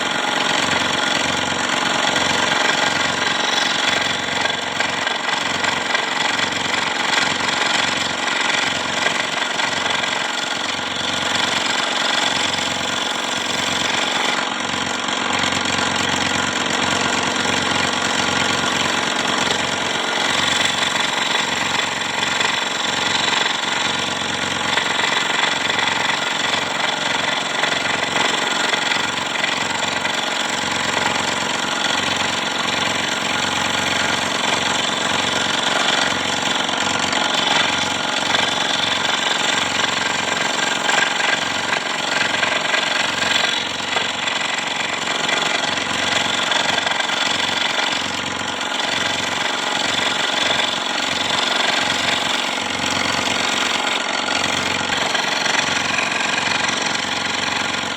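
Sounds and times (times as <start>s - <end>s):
scroll saw cutting wood: 0.0s - 57.9s.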